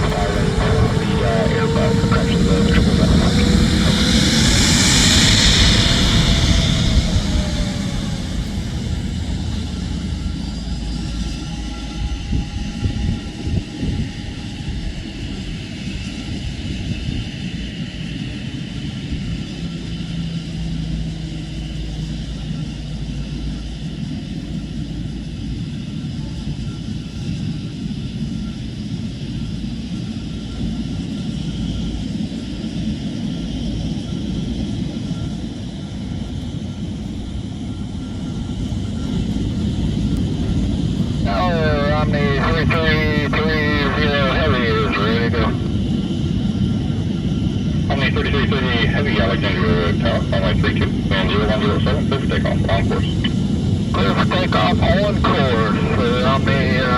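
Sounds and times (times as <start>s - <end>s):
jet engines idling: 0.0s - 56.9s.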